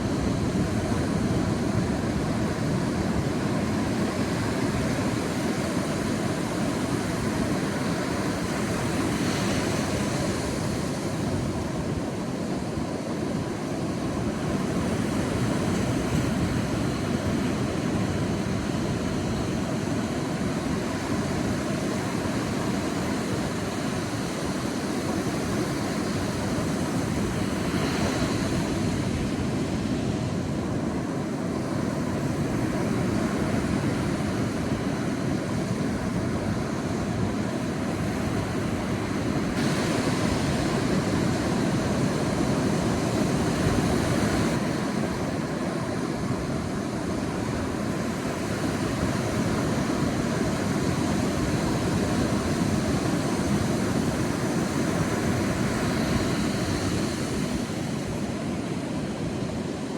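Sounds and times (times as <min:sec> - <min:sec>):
surf washing onto beach: 0:00.0 - 0:59.9.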